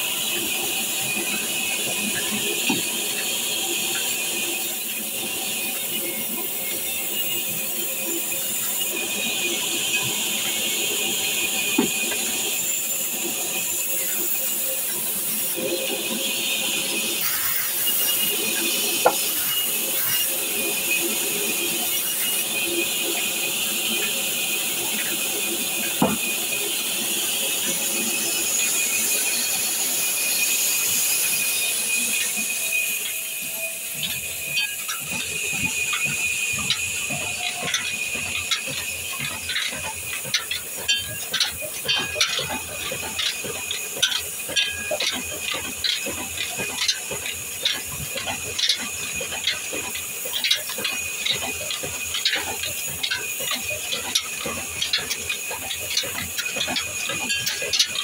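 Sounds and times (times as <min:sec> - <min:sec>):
band saw cutting timber: 0:08.0 - 0:58.0.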